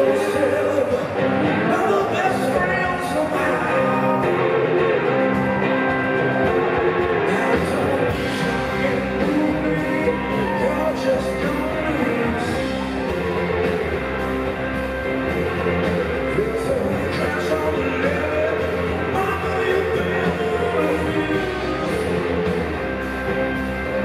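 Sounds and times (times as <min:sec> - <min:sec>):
man singing: 0:00.0 - 0:05.5, 0:06.4 - 0:13.3, 0:15.8 - 0:22.6
drums: 0:00.0 - 0:24.0
electric guitars: 0:00.0 - 0:24.0
live rock band: 0:00.0 - 0:24.0.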